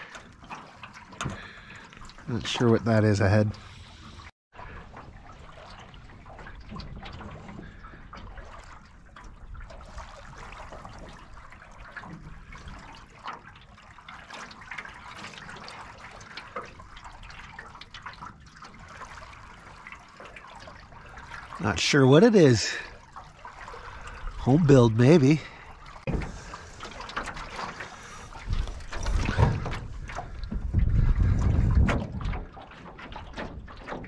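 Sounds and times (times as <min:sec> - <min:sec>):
water lapping against hull: 0:00.0 - 0:34.0.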